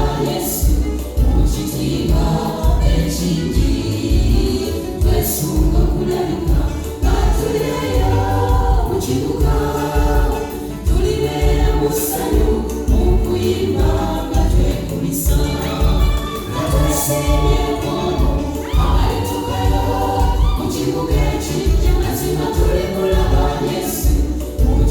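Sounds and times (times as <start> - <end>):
choir singing gospel music: 0.0 - 24.9
steady bass beat: 0.0 - 24.9.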